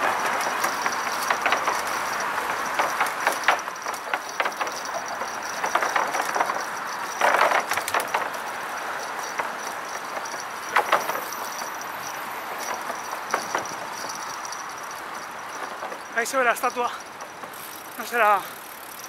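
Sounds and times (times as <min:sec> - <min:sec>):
bicycle rattles and clicks: 0:00.0 - 0:19.0
bicycle rushing noise: 0:00.0 - 0:19.0.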